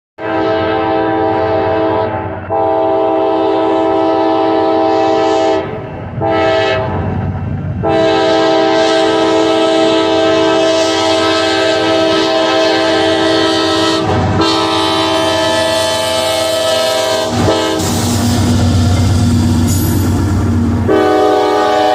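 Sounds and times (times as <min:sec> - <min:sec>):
locomotive air horn blasts: 0:00.2 - 0:07.1, 0:07.8 - 0:18.1, 0:20.8 - 0:21.9
train rumble: 0:00.2 - 0:21.9.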